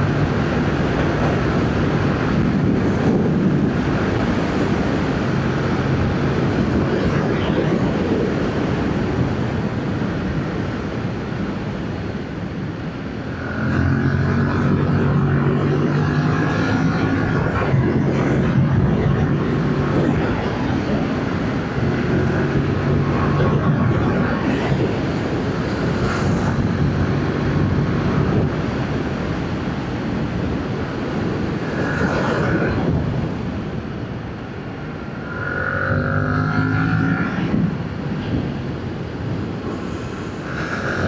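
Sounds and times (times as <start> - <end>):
wind rushing over microphone: 0.0 - 41.0.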